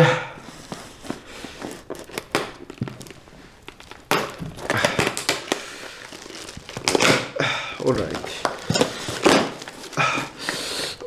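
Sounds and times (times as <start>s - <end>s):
cardboard crackling and rustling: 0.4s - 10.6s
cardboard and tape cracking: 0.5s - 10.6s.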